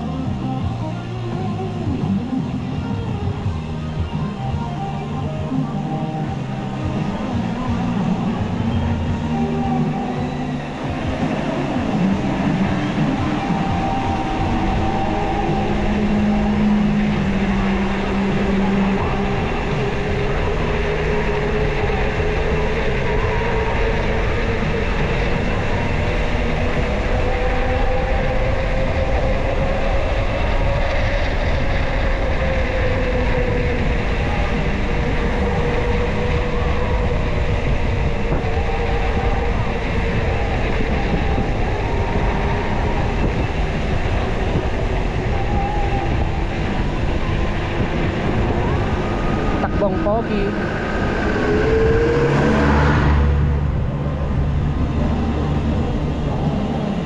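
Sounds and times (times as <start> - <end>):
hum rising and falling in pitch: 0.0 - 57.0
wind and road noise: 0.0 - 57.0.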